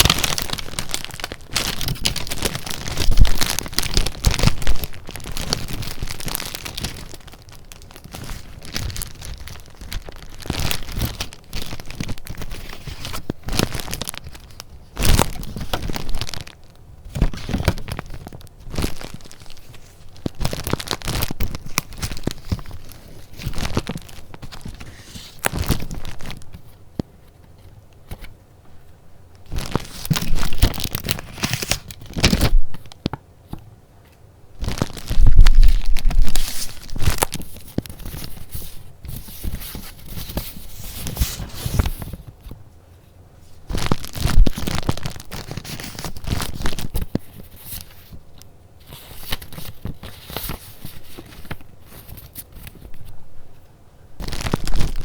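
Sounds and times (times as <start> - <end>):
paper rustling and crinkling: 0.0 - 28.4, 29.4 - 33.2, 34.1 - 42.6, 43.5 - 53.6, 54.2 - 55.0.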